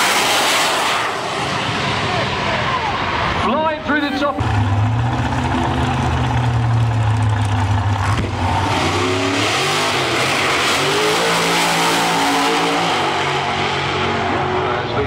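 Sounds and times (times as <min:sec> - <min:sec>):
drag car engine revving: 0:00.0 - 0:03.4, 0:04.4 - 0:15.0.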